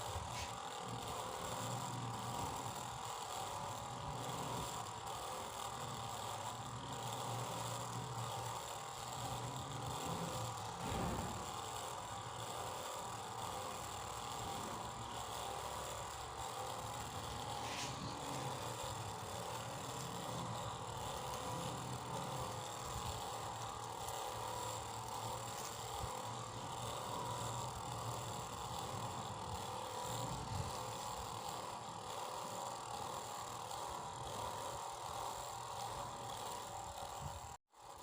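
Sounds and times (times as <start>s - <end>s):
small fan motor running: 0.0s - 38.0s.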